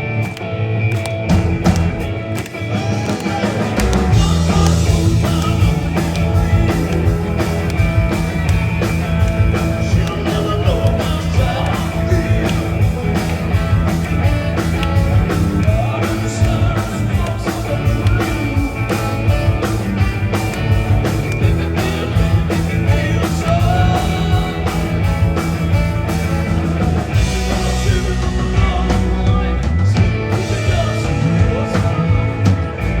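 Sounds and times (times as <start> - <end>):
rock band playing: 0.0 - 33.0
steady drum beat: 1.2 - 33.0.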